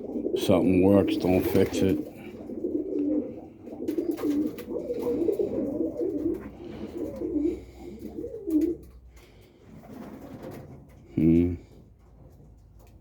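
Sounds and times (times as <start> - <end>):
pigeons cooing: 0.0 - 12.1.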